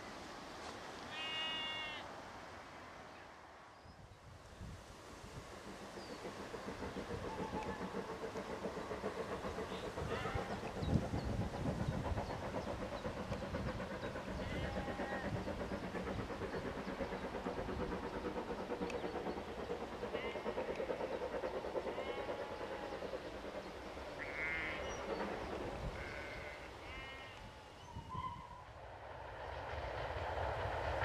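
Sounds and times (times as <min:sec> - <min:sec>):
approaching train: 0:00.0 - 0:31.0
distant steam locomotive exhaust beats: 0:04.2 - 0:31.0.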